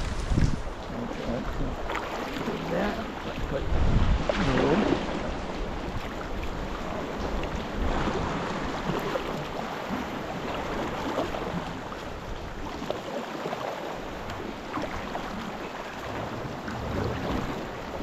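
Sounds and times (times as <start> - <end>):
water sloshing around paddles: 0.0 - 18.0
wind: 0.0 - 18.0.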